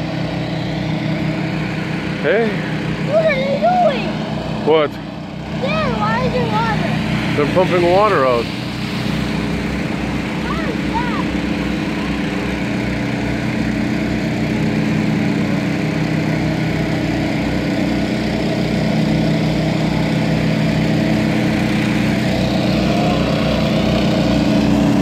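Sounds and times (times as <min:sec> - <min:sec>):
water pump engine running: 0:00.0 - 0:25.0.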